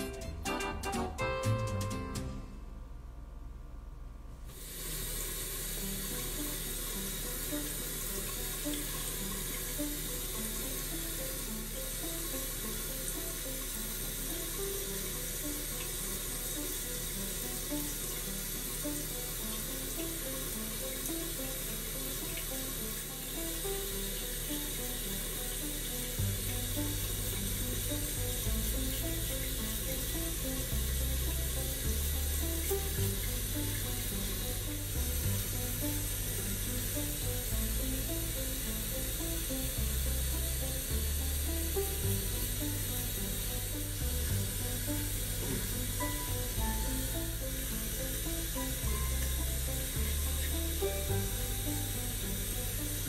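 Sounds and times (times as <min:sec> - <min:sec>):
quiet background music: 0:00.0 - 0:03.2, 0:04.6 - 0:53.0
sink faucet running: 0:04.5 - 0:53.0.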